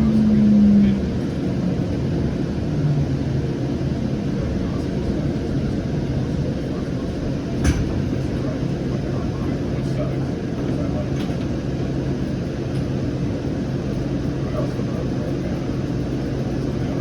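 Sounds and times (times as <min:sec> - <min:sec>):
train motor hum: 0:00.0 - 0:14.7
light rail car rumbling: 0:00.0 - 0:17.0.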